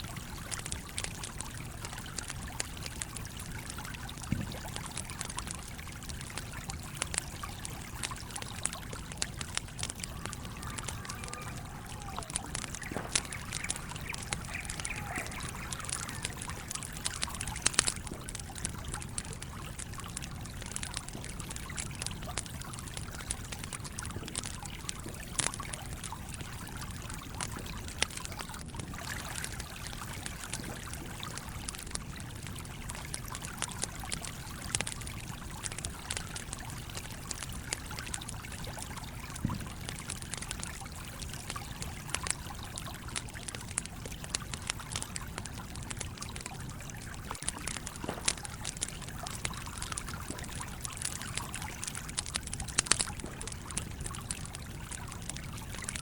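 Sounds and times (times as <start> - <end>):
campfire crackling and popping: 0.0 - 56.0
stream flowing: 0.0 - 56.0.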